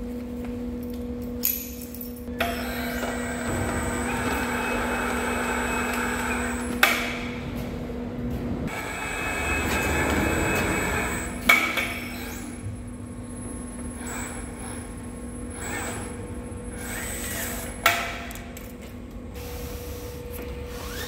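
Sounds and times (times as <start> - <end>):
electric hoist motor humming: 2.3 - 21.0.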